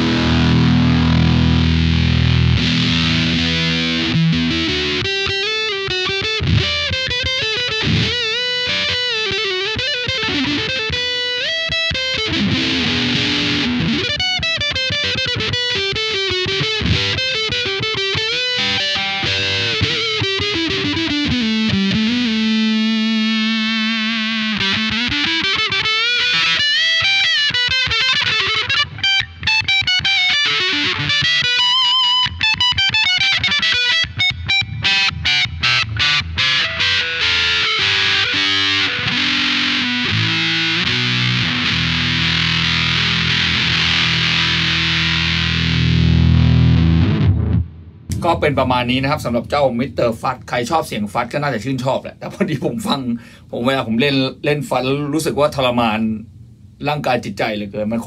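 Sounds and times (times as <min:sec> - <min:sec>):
fuzzy electric guitar: 0:00.0 - 0:58.0.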